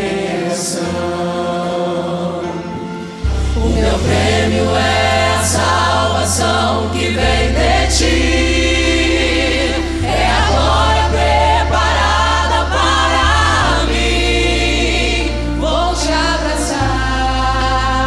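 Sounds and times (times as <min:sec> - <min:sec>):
choir singing gospel song: 0:00.0 - 0:18.0
instrumental backing: 0:00.0 - 0:18.0
low bass notes: 0:03.2 - 0:18.0.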